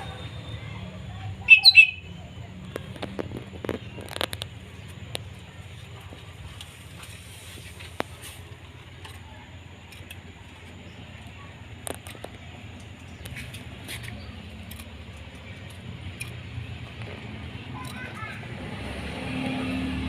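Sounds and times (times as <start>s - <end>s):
low background hum: 0.0s - 18.6s.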